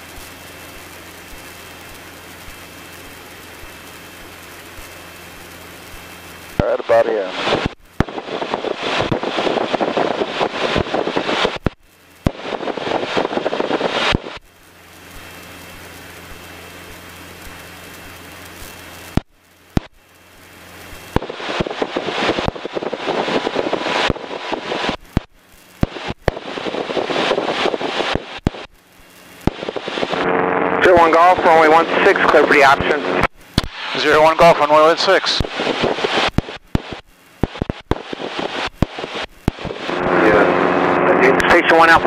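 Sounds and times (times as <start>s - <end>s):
aircraft engine drone: 0.0s - 42.0s
crackling intercom static: 0.0s - 42.0s.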